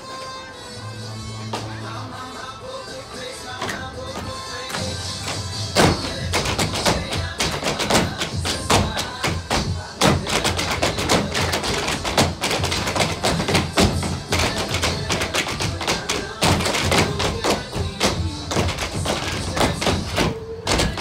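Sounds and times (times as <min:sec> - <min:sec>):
upbeat backing music: 0:00.0 - 0:21.0
tap shoes striking stage floor: 0:03.6 - 0:21.0.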